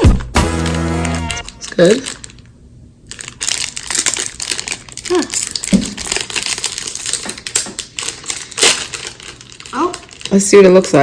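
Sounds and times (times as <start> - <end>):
plastic snack wrapper crinkling: 0.0 - 11.0.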